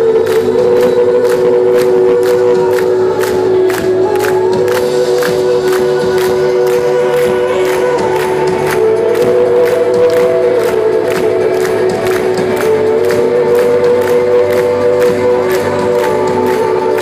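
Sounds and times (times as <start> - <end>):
loud music with steady beat: 0.0 - 17.0.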